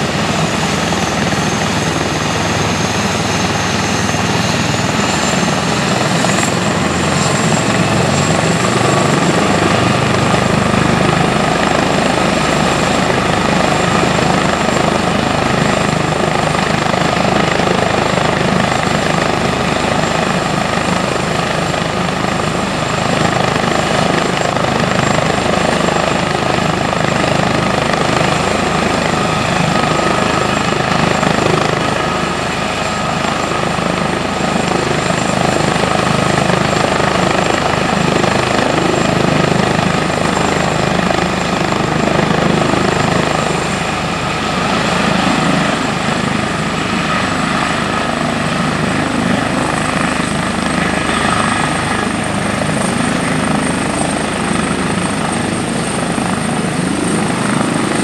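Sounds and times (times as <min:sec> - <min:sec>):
helicopter turbine whine and rotor: 0:00.0 - 0:58.0.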